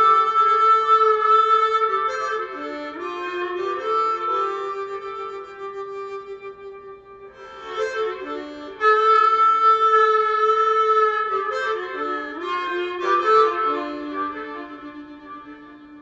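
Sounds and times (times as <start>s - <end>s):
blues harmonica playing: 0.0s - 16.0s.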